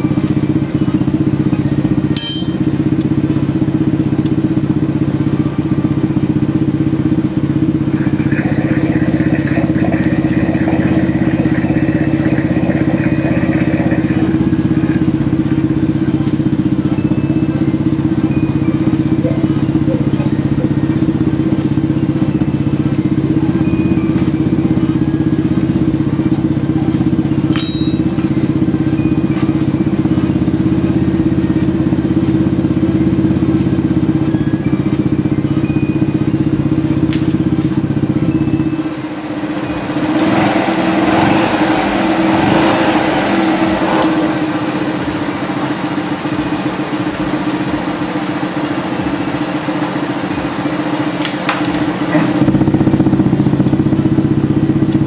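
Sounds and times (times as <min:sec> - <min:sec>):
high whine: 0:00.0 - 0:55.0
motorcycle engine running: 0:00.0 - 0:55.0.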